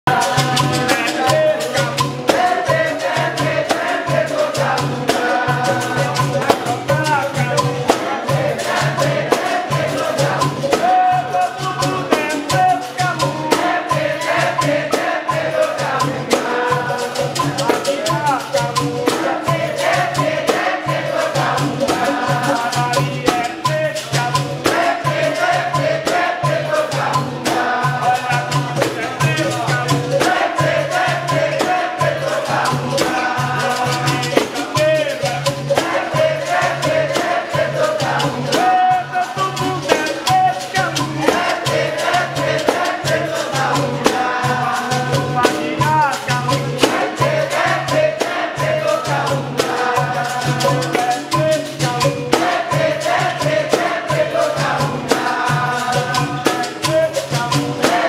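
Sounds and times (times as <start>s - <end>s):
group of voices singing: 0.0s - 58.0s
berimbaus playing: 0.1s - 58.0s
hand drum beat: 0.1s - 58.0s
shakers: 0.1s - 58.0s.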